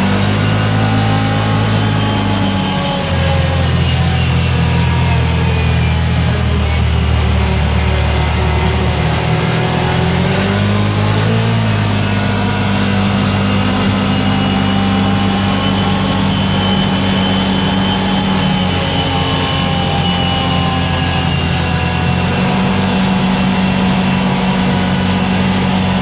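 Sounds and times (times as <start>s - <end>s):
engine running while driving: 0.0s - 26.0s.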